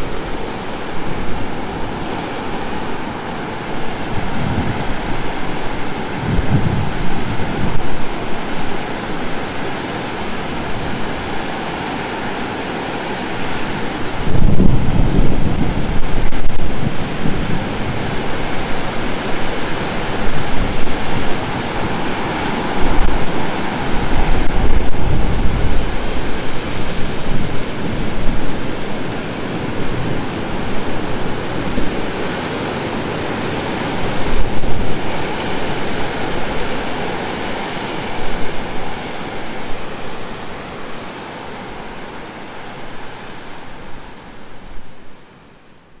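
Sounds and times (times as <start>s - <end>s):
wind rumbling on microphone: 0.0s - 45.3s
waves breaking: 0.0s - 46.0s.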